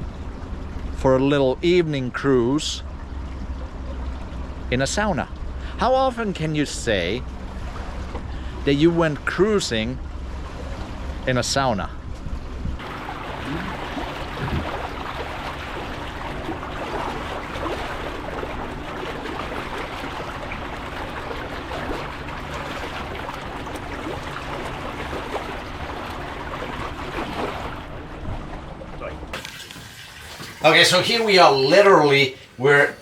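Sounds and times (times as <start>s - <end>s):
boat motor humming: 0.0s - 33.0s
water rushing along boat hull: 0.0s - 33.0s.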